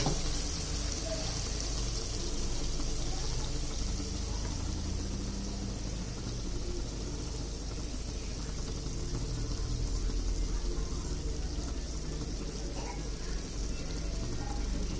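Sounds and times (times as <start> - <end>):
chicken sizzling in hot oil: 0.0 - 14.9.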